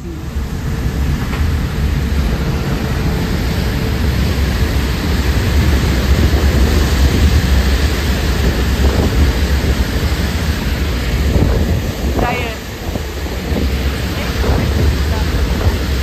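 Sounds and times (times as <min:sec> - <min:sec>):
rush of churning wake: 0:00.0 - 0:16.0
wind buffeting microphone: 0:00.0 - 0:16.0.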